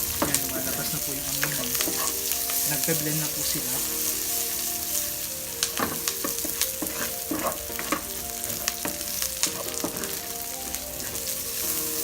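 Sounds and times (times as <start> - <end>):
food sizzling in hot oil: 0.0 - 12.0
wooden spoon scraping a pan: 0.0 - 12.0.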